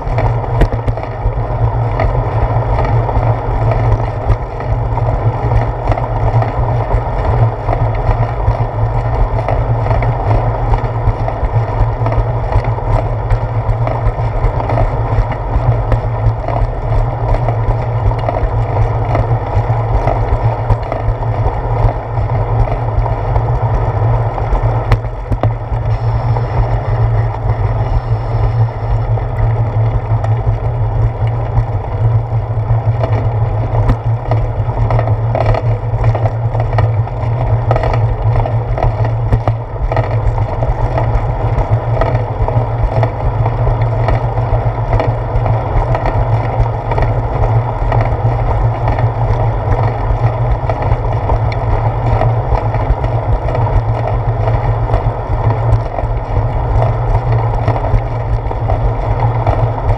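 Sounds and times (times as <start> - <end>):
bicycle rolling on concrete: 0.0 - 59.9
wind noise: 0.0 - 59.9.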